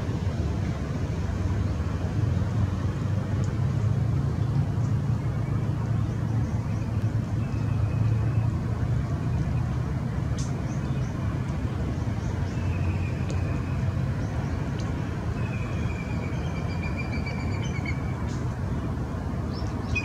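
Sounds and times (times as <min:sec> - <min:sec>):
distant engine drone: 0:00.0 - 0:20.0.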